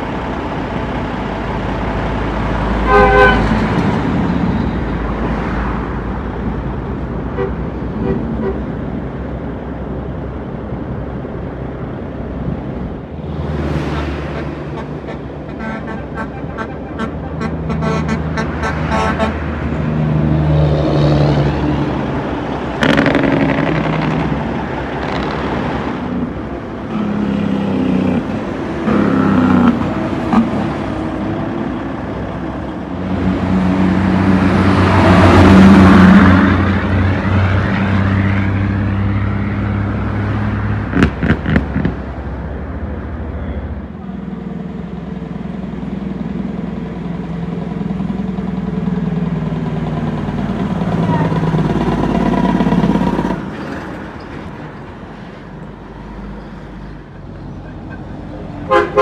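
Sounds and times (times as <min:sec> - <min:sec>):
heavy diesel trucks passing: 0:00.0 - 0:59.0.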